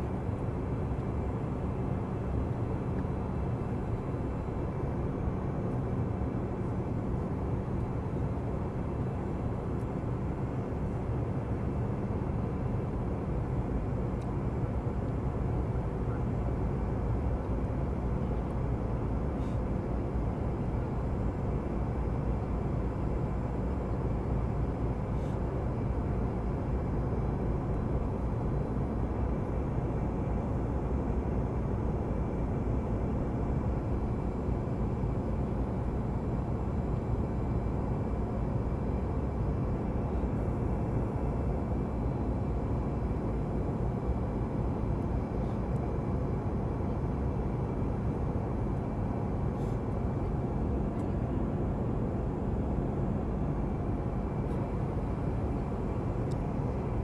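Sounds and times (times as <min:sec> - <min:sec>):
aircraft engines rumbling: 0:00.0 - 0:57.0
faint steady hum: 0:00.0 - 0:57.0.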